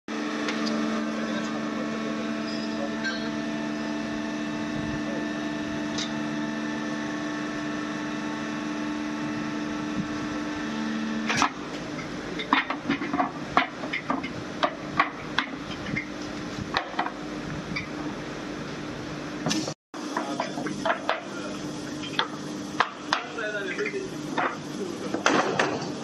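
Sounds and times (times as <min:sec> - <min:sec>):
hydraulic pump humming: 0:00.1 - 0:26.0.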